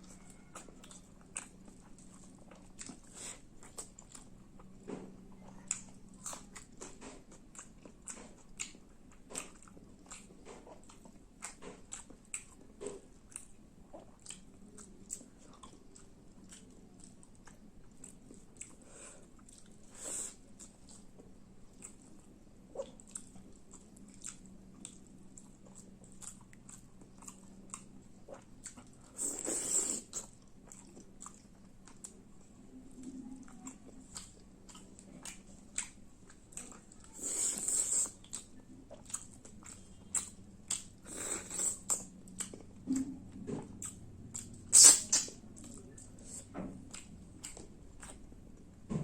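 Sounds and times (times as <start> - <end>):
chewing and biting food: 0.0 - 48.8.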